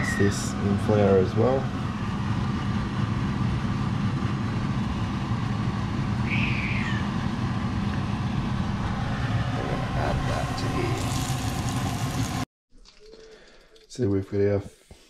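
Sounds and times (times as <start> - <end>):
low mechanical hum: 0.0 - 12.5.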